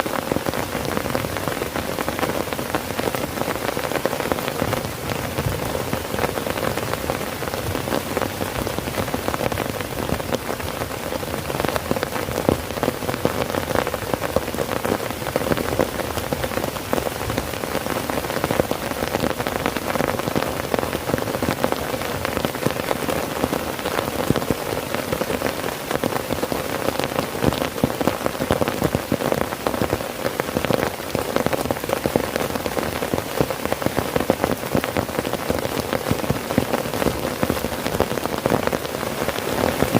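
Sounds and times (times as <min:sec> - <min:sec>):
heavy rain on tent fabric: 0:00.0 - 0:39.9.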